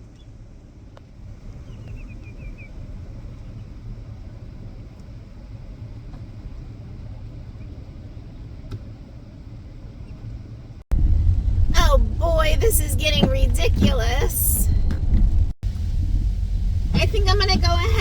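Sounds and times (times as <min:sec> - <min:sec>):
vehicle cabin rumble: 0:00.0 - 0:18.0.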